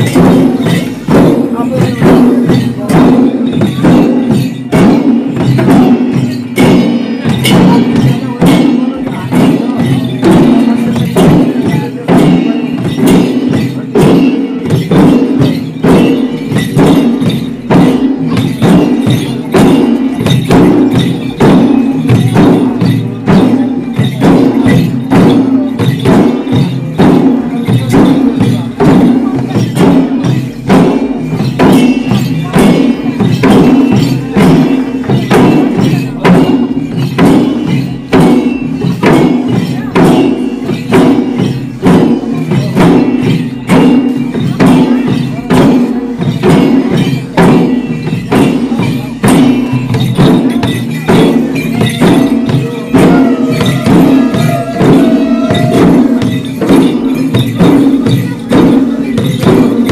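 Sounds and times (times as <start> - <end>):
barrel drums beaten by hand: 0.0 - 59.9.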